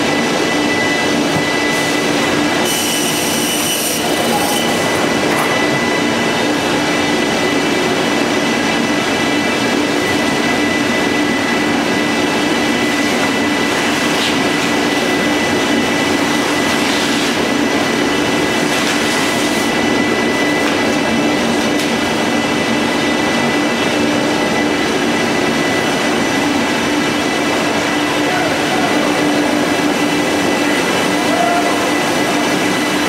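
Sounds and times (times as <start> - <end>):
conveyor machinery humming: 0.0 - 33.0
thin high whine: 0.0 - 33.0.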